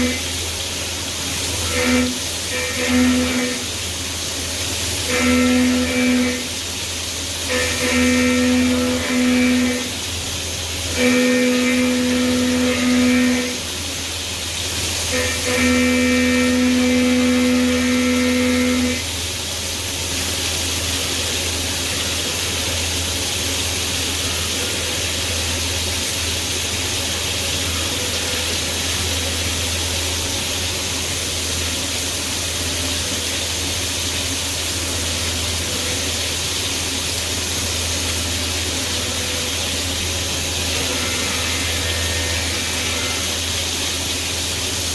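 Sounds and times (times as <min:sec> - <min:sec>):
milling machine hum: 0:00.0 - 0:44.9.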